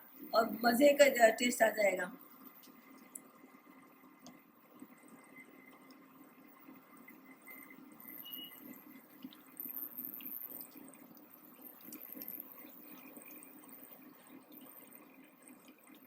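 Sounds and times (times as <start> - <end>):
liquid bubbling in a pan: 2.1 - 16.0.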